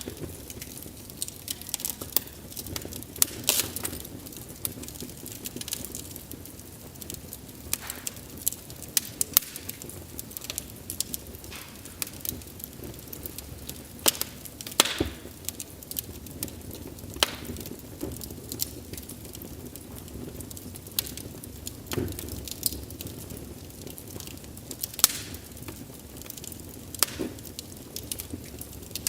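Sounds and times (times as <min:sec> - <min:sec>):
fire rumbling: 0:00.0 - 0:29.0
wood crackling and popping: 0:00.0 - 0:29.0.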